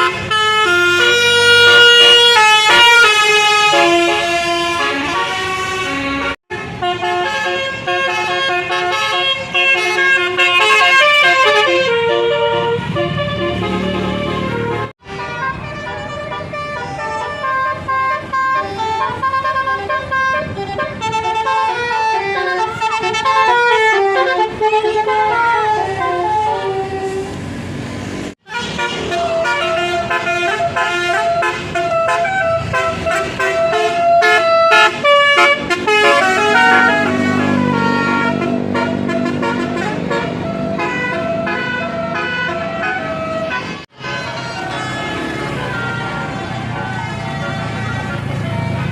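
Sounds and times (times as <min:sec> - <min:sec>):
multi-tone bus horn melodies: 0:00.0 - 0:27.6, 0:28.3 - 0:48.9.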